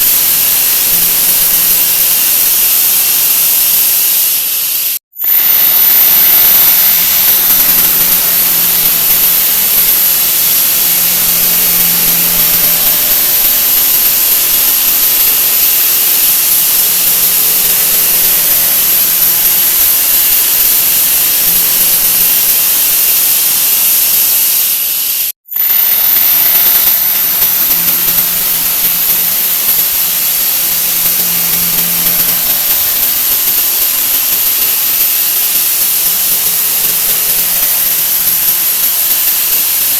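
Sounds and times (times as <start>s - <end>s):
harsh hiss with shrill whine: 0.0s - 39.9s.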